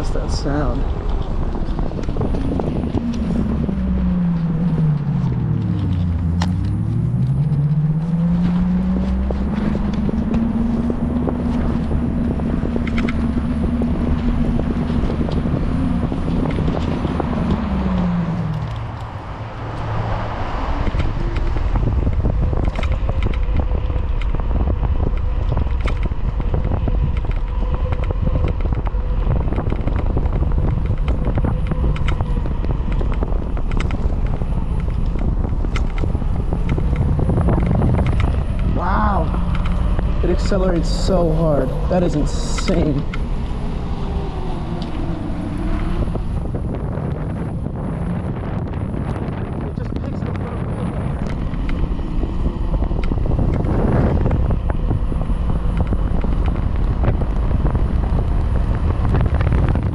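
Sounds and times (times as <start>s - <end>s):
electric motor whine: 0.0s - 59.9s
road and wind noise: 0.0s - 59.9s.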